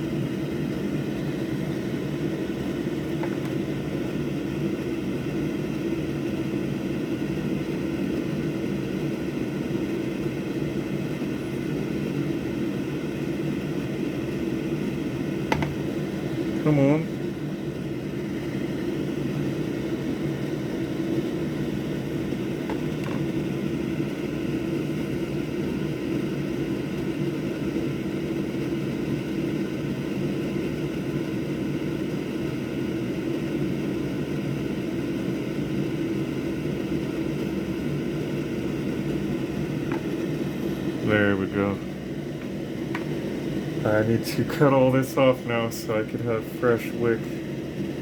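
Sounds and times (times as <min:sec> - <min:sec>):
electric fan whirring: 0:00.0 - 0:48.0.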